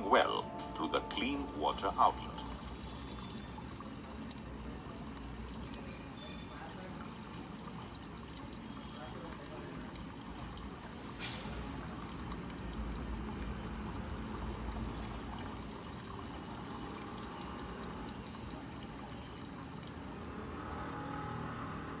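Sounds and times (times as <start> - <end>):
water running through filter: 0.0 - 22.0.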